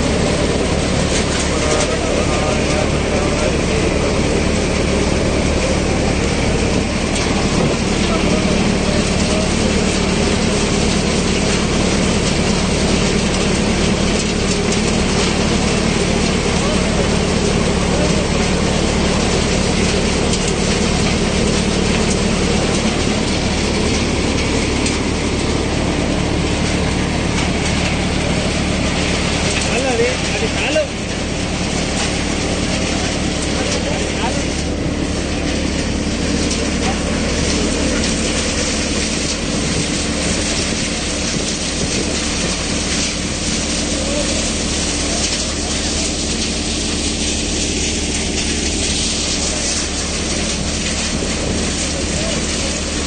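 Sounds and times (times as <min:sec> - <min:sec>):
constant hum: 0:00.0 - 0:53.0
thresher mechanical drone: 0:00.0 - 0:53.0
tractor engine: 0:00.0 - 0:53.0.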